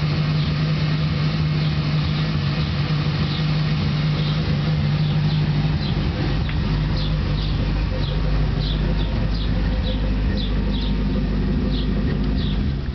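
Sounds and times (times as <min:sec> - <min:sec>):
car engine idling rumble: 0:00.0 - 0:12.9.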